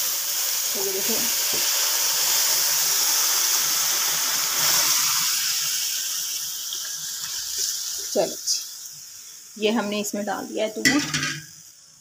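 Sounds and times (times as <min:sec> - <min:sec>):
milk sizzling in hot wok: 0:00.0 - 0:12.0.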